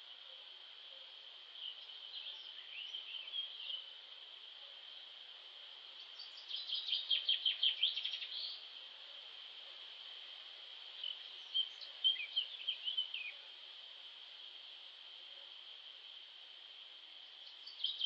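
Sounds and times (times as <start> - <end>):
small songbirds chirping: 0.0 - 18.0
steady high hiss: 0.0 - 18.0.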